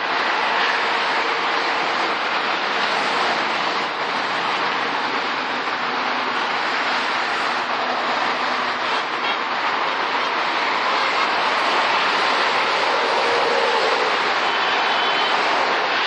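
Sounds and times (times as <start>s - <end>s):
freeway traffic roar: 0.0s - 16.0s.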